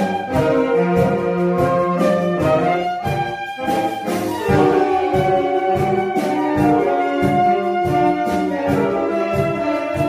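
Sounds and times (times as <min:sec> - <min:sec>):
saxophone and clarinet ensemble: 0:00.0 - 0:10.0.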